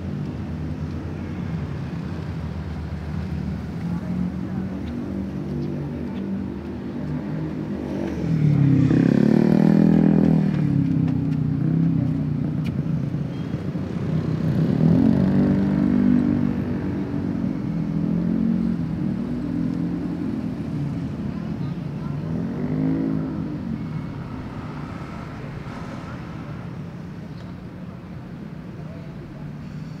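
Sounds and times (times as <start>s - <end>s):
motorcycles passing: 0.0s - 30.0s.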